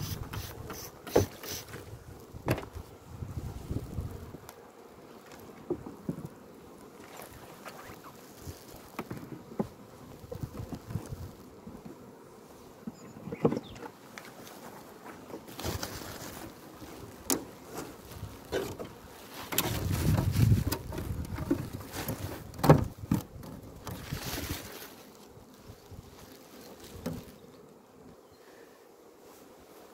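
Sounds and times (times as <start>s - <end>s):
bees buzzing: 0.0s - 29.9s.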